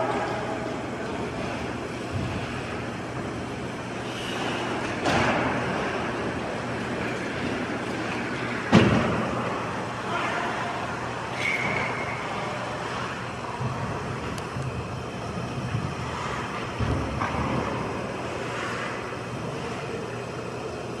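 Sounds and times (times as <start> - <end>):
indoor rink noise: 0.0 - 21.0.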